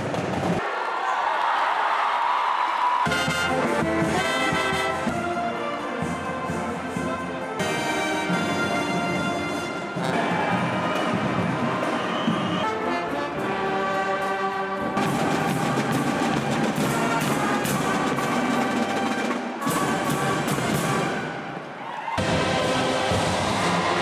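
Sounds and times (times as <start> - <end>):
marching drums: 3.0 - 21.6, 22.2 - 24.0
marching band brass: 3.0 - 24.0.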